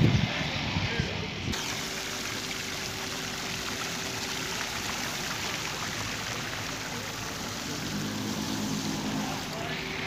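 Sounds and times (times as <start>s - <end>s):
fountain splashing into basin: 1.6s - 10.0s.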